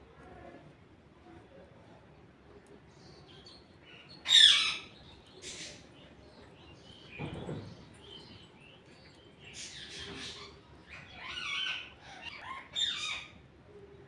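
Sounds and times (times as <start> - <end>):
birds chirping: 2.7 - 14.0.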